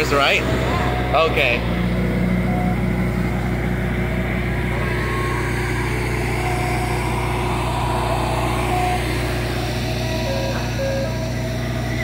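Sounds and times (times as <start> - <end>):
truck idling hum: 0.0 - 12.0.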